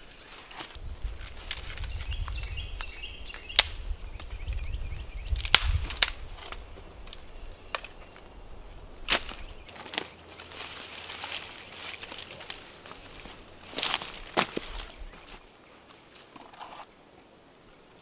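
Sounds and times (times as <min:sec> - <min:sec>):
dry sticks cracking and snapping: 0:00.2 - 0:04.4, 0:05.3 - 0:08.3, 0:09.0 - 0:16.5.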